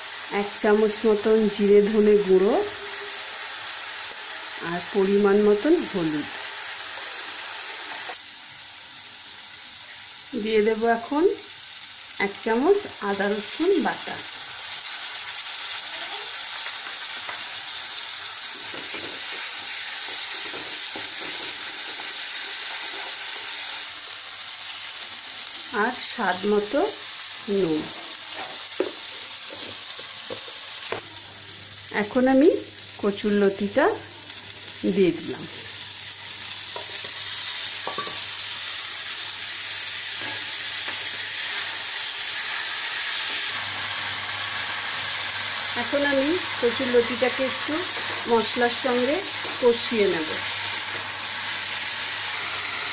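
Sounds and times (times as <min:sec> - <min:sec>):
prawns sizzling in hot oil: 0:00.0 - 0:52.9.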